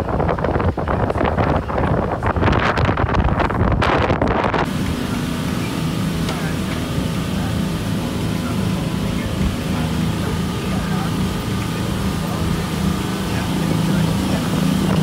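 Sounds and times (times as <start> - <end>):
motorboat engine drone: 0.0 - 15.0
water rushing past hull: 0.0 - 15.0
wind buffeting microphone: 0.0 - 15.0.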